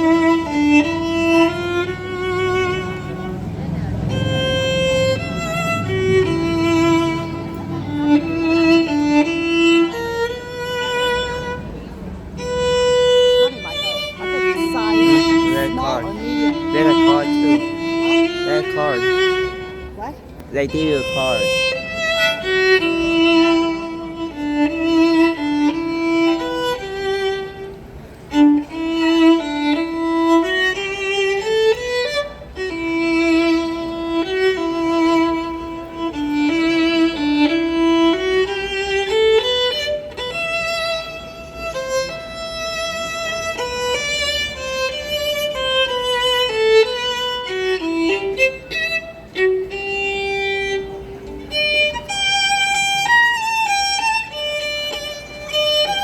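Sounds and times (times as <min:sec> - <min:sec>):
violin playing a waltz melody: 0:00.0 - 0:56.0.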